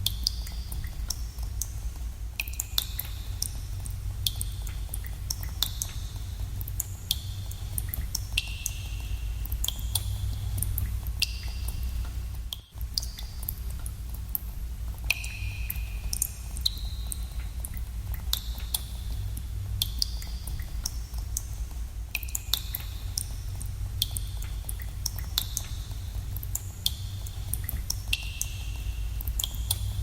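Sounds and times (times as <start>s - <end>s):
steady low rumble: 0.0s - 30.0s
water drops plinking into pools: 2.4s - 21.5s, 22.1s - 30.0s.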